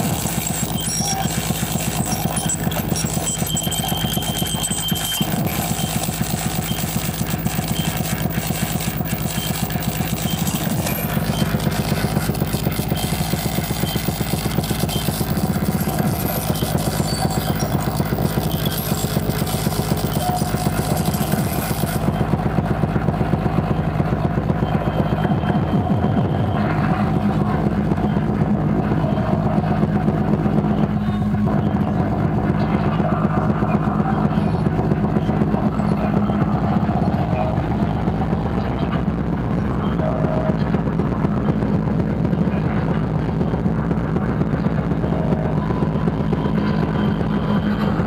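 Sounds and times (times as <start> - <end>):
heavy low drone: 0.0 - 48.0
pulsing electronic music: 0.0 - 48.0.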